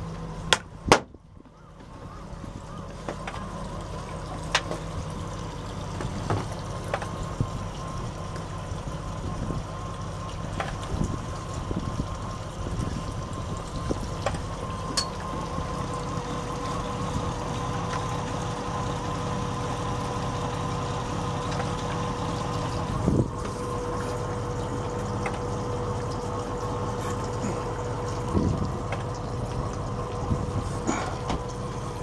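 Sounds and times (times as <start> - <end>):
motor humming: 0.0 - 32.0
water trickling and splashing: 0.0 - 32.0.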